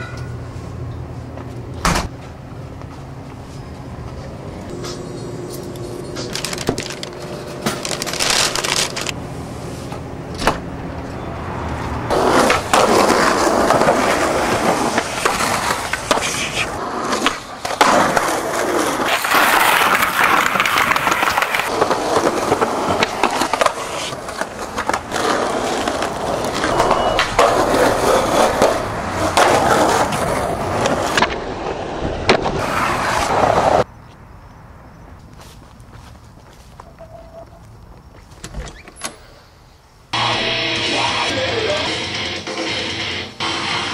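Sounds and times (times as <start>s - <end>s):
skateboard wheels rolling on concrete: 0.0s - 43.9s.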